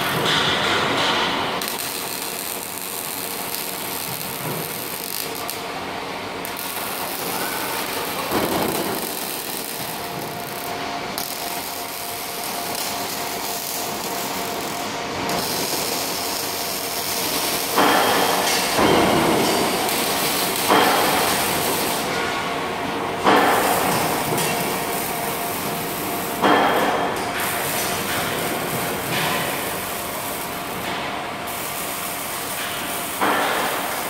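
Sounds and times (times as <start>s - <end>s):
arc welding crackle: 0.0s - 22.2s, 23.3s - 34.0s.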